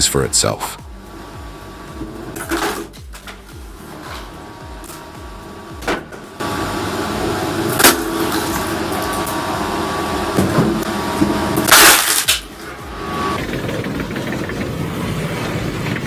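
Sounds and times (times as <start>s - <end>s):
wood-processing machine running: 0.0s - 16.0s.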